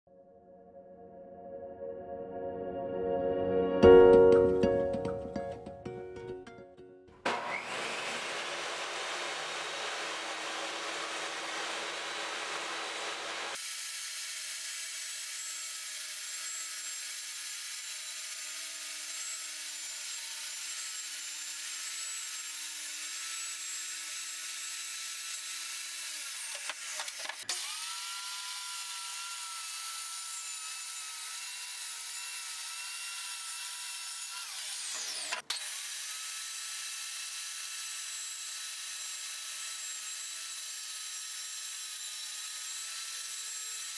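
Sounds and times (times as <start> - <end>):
table saw motor whine: 7.2 - 43.9.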